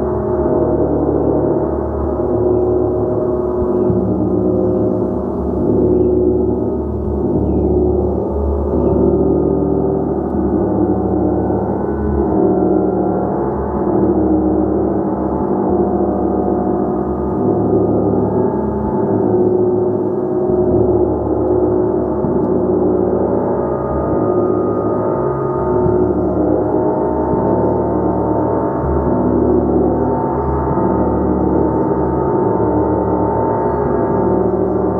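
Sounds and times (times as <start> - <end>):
large gong ringing: 0.0 - 34.9.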